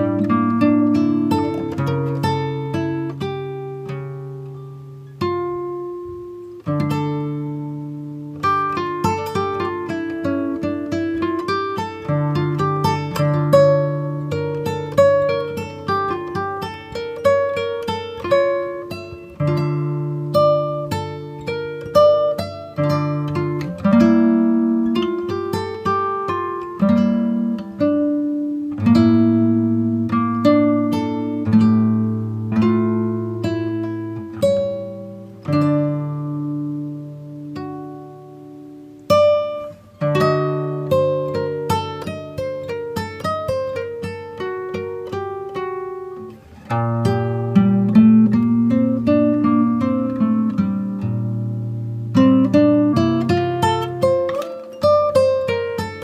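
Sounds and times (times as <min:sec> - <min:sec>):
plucked strings music: 0:00.0 - 0:56.0.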